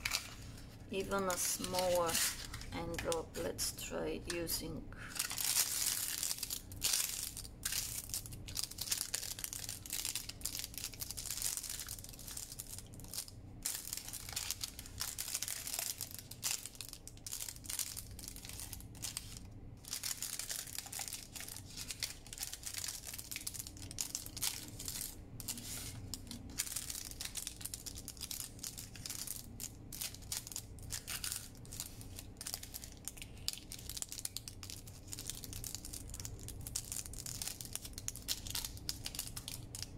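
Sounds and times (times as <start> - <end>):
paper crinkling and rustling: 0.0 - 3.2, 5.1 - 39.9.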